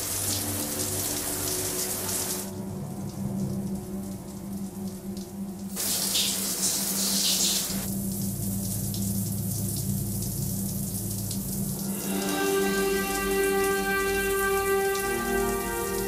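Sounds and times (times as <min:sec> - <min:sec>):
running water hissing: 0:00.0 - 0:02.7, 0:04.8 - 0:16.0
low hum: 0:00.0 - 0:05.8, 0:07.8 - 0:16.0.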